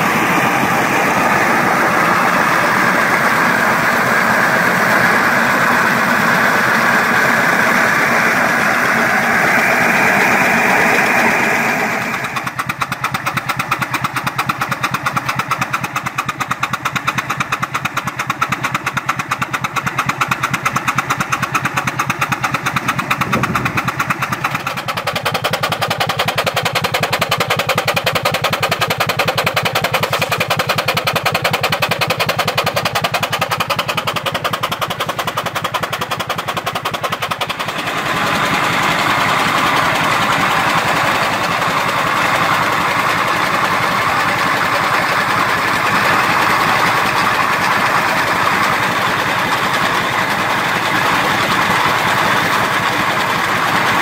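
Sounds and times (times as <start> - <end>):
feed grinder milling corn: 0.0 - 54.0
steam engine running: 0.0 - 54.0.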